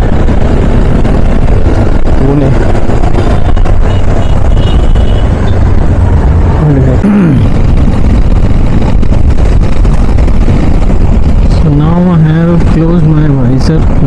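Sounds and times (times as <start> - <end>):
motorcycle engine: 0.0 - 14.0
traffic noise: 0.0 - 14.0
wind buffeting microphone: 0.0 - 14.0.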